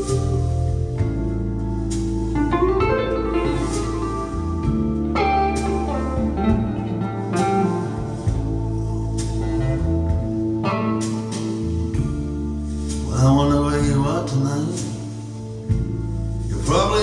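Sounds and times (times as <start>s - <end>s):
electric guitar over bass: 0.0s - 17.0s.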